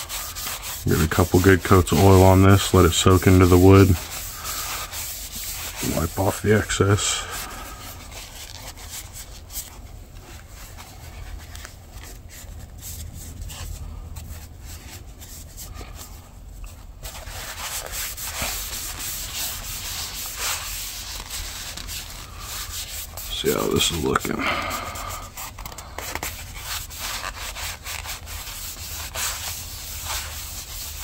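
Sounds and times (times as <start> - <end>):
paper towel rubbing on wood: 0.0 - 31.0.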